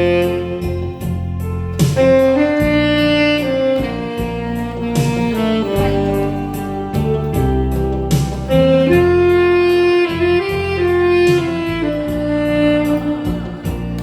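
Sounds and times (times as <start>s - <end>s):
recorded backing music: 0.0s - 14.0s
saxophone melody: 0.0s - 14.0s.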